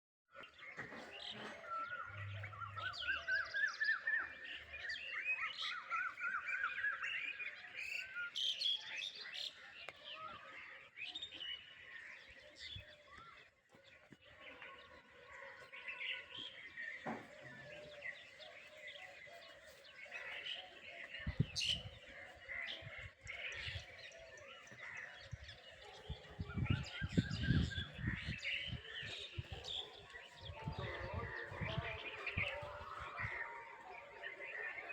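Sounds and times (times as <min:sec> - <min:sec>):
birds calling and chirping: 0:00.3 - 0:34.9.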